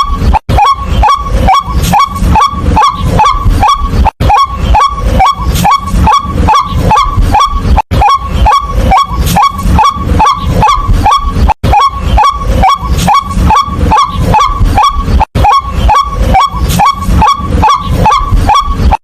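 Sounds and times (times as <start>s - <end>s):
waterhen calling: 0.5s - 19.0s.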